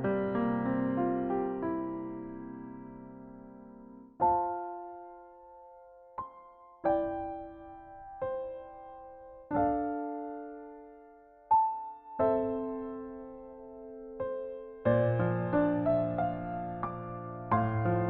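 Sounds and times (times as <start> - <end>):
slow gentle piano: 0.0 - 18.0.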